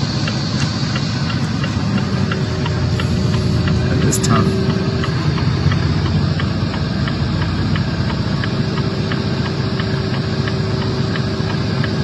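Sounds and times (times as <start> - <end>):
faint regular ticking: 0.0 - 12.0
vehicle engine idling: 0.0 - 12.0.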